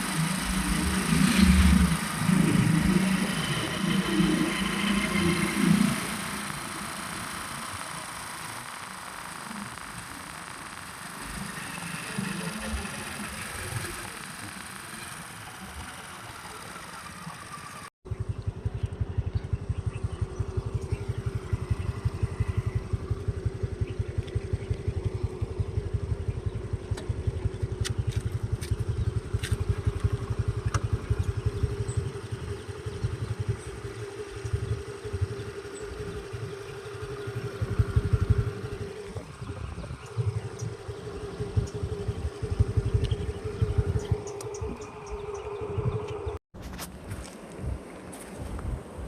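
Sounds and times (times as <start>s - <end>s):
engine running with low throb: 0.0s - 49.0s.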